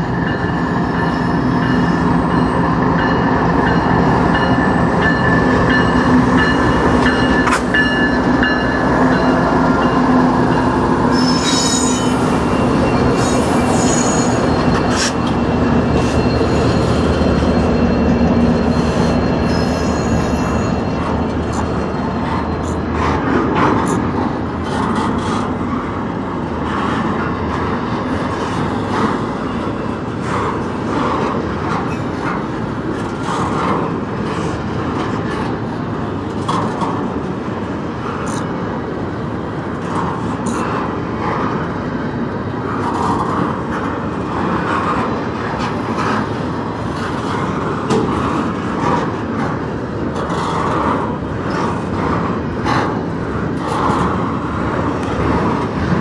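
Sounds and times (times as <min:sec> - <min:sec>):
train cars clanking: 0:00.0 - 0:56.0
train wheels rumbling on rails: 0:00.0 - 0:56.0.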